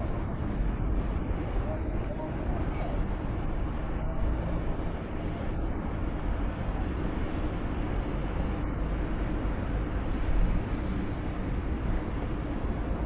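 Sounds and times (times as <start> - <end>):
outdoor city background noise: 0.0 - 13.0.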